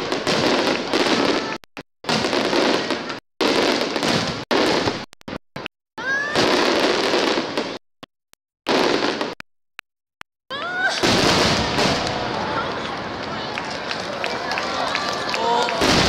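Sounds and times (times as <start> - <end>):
fireworks bursting and crackling: 0.0 - 7.8, 8.7 - 9.4, 10.6 - 16.0.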